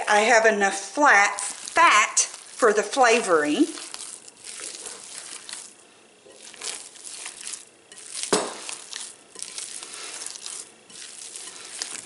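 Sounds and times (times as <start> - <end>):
hands squelching raw meat: 1.0 - 12.0.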